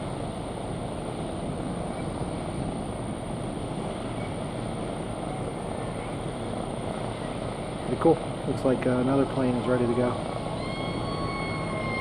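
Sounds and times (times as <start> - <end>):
low ship rumble: 0.0 - 12.0
wind rushing over microphone: 0.0 - 12.0.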